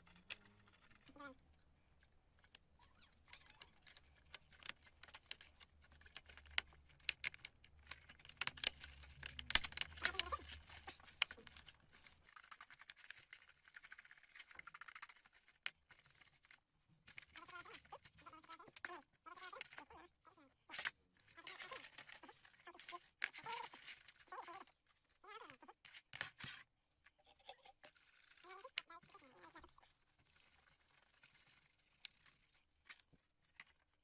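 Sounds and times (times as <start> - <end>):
small parts clicking and tapping: 0.0 - 34.0.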